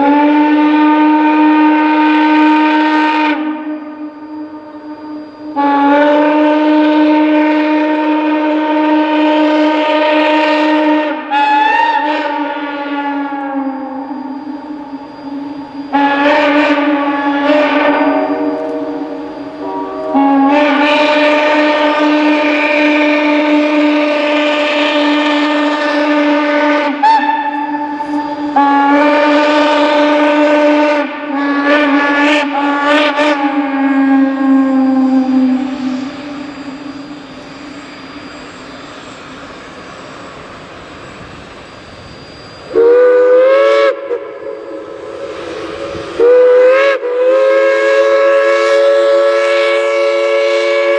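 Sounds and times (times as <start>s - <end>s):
steam locomotive whistle: 0.0s - 50.9s.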